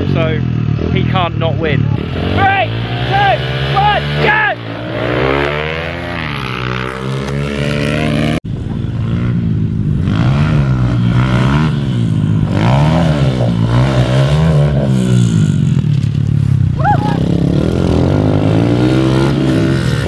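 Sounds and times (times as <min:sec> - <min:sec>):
minibike engines revving: 0:00.0 - 0:20.0.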